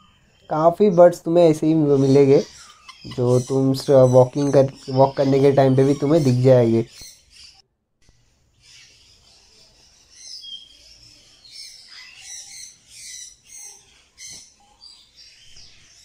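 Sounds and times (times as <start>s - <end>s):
birds chirping and calling: 0.0s - 7.6s, 8.6s - 16.0s.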